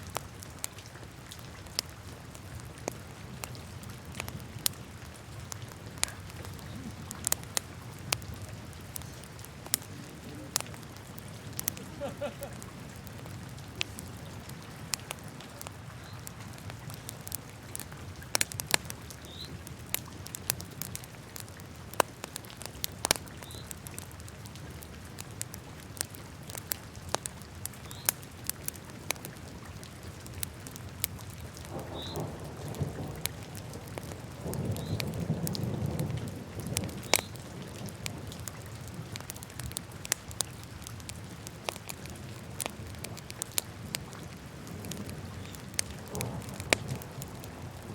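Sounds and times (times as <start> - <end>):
wood fire crackling and popping: 0.0 - 47.9
rumble of flames: 0.1 - 47.9.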